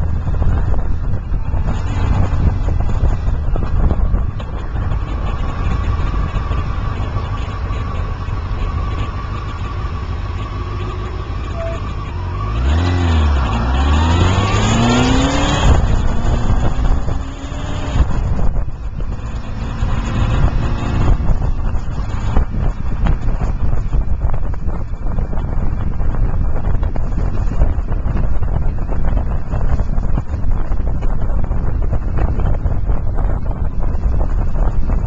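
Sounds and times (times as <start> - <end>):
car engine: 0.0 - 35.0
road rumble: 0.0 - 35.0.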